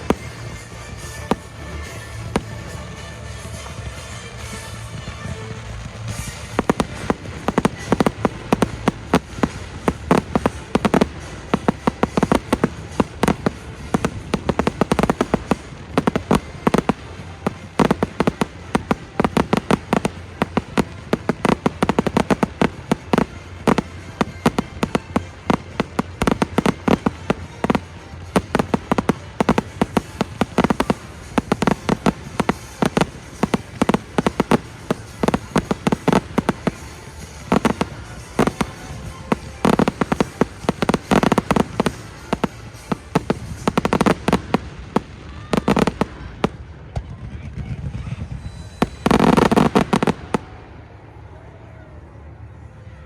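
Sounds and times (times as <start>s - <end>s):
fireworks bangs and crackles: 0.0s - 51.7s.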